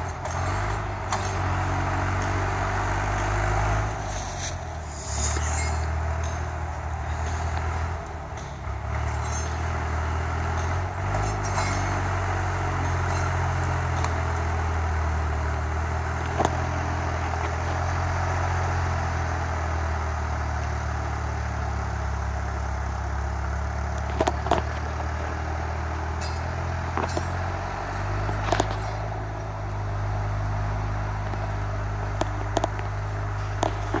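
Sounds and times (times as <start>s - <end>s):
road noise: 0.0s - 34.0s
vehicle engine hum: 0.0s - 34.0s.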